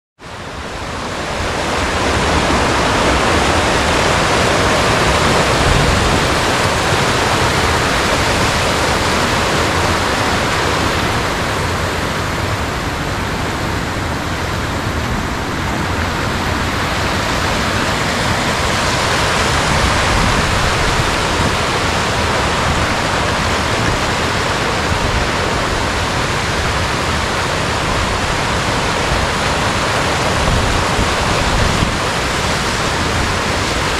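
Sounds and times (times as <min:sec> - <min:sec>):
stream rushing over rocks: 0:00.2 - 0:33.9.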